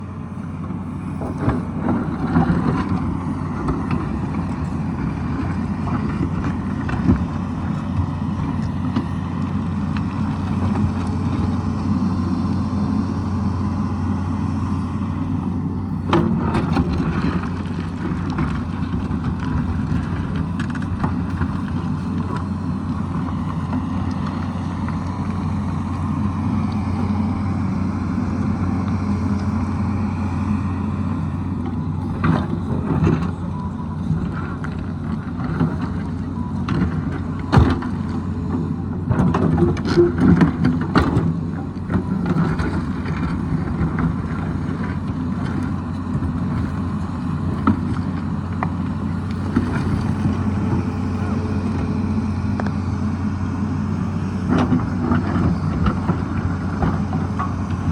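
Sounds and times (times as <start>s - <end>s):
excavator diesel engine: 0.0s - 57.9s.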